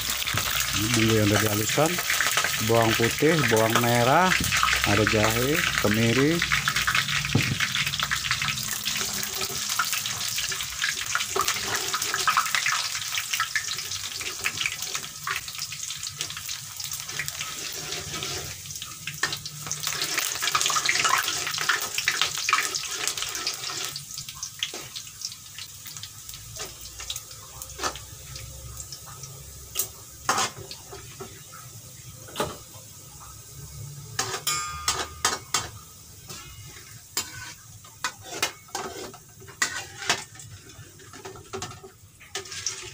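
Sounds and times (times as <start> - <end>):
oil sizzling in a pan: 0.0 - 42.9.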